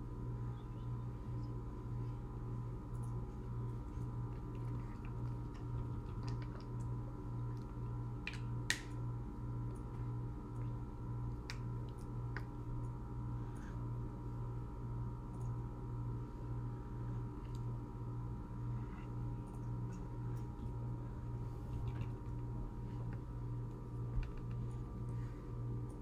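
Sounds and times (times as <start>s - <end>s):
pulsing low hum: 0.0s - 26.0s.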